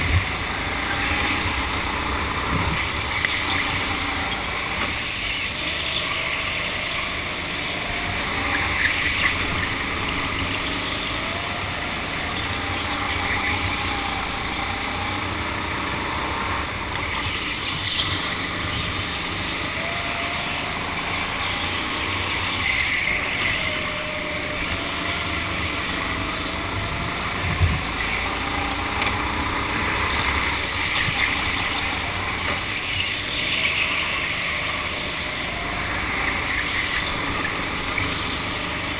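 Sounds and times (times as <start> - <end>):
go-kart motor running: 0.0 - 38.9.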